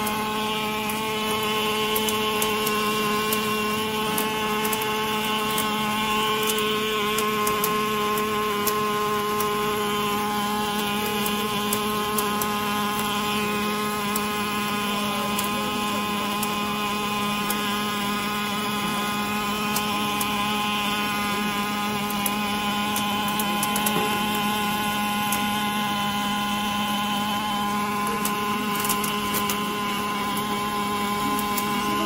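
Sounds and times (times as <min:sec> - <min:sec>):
welding arc humming and buzzing: 0:00.0 - 0:32.0.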